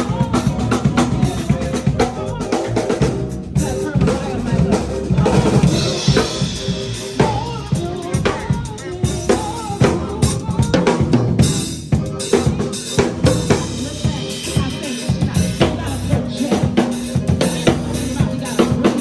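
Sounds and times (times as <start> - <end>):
drum kit beat: 0.0 - 19.0
live band playing: 0.0 - 19.0.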